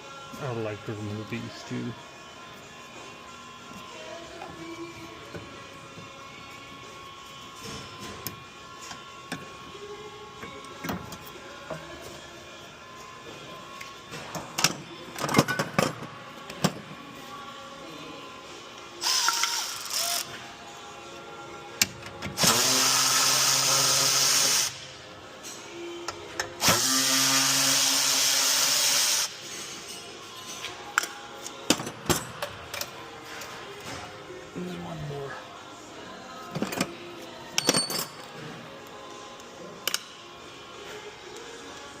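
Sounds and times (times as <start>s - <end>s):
background music: 0.0s - 42.0s.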